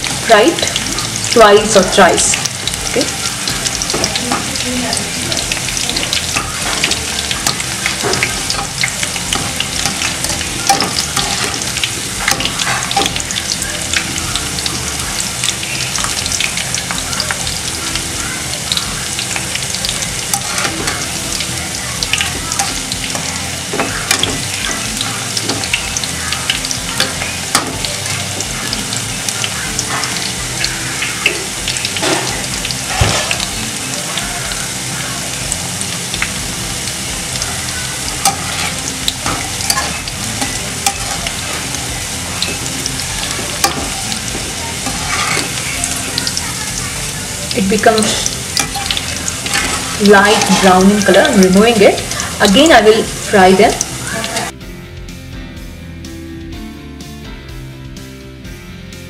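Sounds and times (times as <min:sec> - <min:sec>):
food deep-frying in hot oil: 0:00.0 - 0:54.6.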